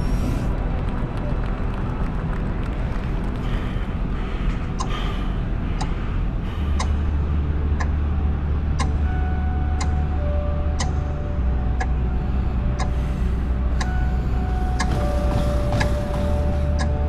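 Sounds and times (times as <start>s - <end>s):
deep steady drone: 0.0s - 17.0s.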